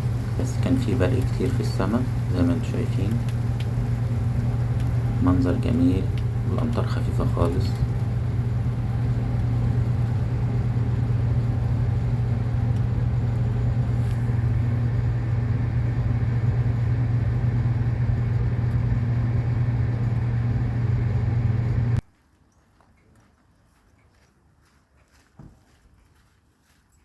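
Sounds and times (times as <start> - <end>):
low mechanical hum: 0.0 - 24.4.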